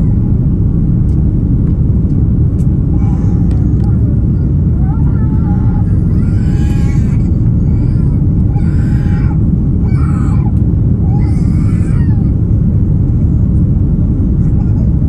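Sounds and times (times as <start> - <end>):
aircraft engine and airflow rumble: 0.0 - 15.0.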